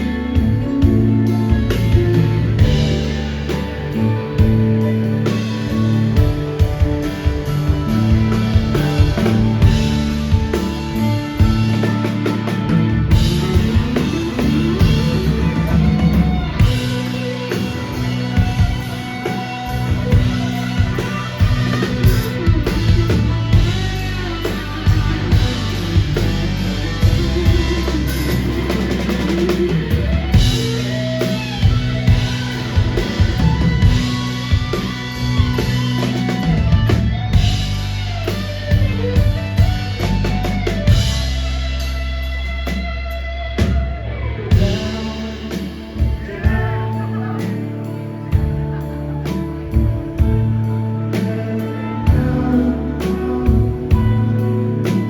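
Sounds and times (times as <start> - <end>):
drum kit: 0.0 - 55.0
guitar melody bending in pitch: 0.0 - 55.0
held low notes: 0.0 - 55.0
rock band playing: 0.0 - 55.0.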